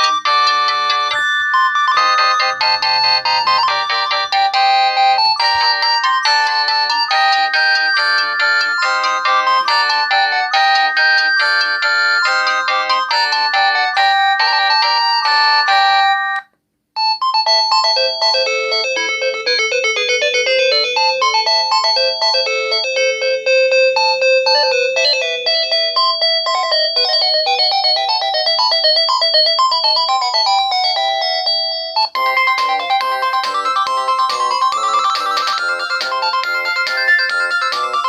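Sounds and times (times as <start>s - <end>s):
mobile phone ringtone melodies: 0.0s - 38.0s.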